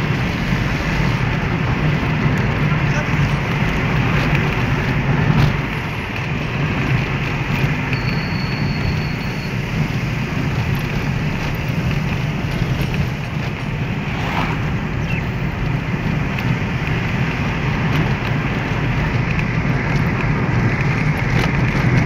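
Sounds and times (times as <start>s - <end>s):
car engine and road rumble: 0.0s - 22.0s
wind noise: 0.0s - 22.0s.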